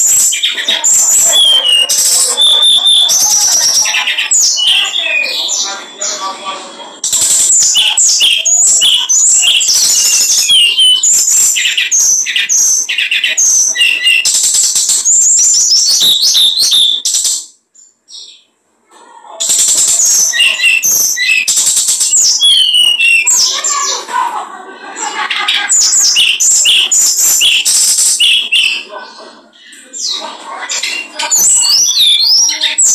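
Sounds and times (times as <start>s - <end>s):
songbird singing: 0.0s - 18.6s, 19.4s - 24.1s, 25.4s - 32.9s.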